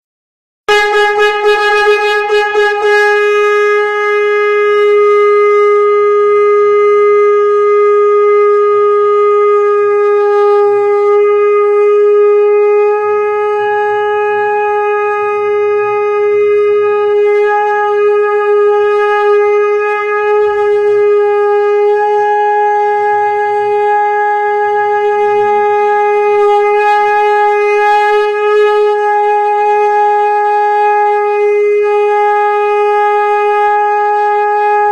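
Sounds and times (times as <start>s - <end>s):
conch shell blown: 0.7s - 34.9s.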